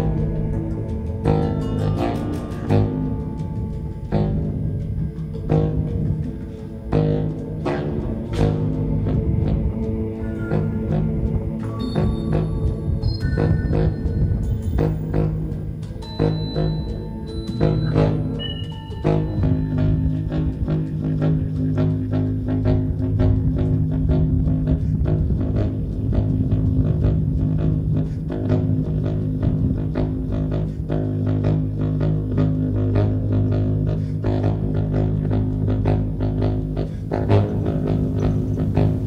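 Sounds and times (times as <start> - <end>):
baritone saxophone droning: 0.0 - 39.0
clicking percussion: 0.0 - 39.0.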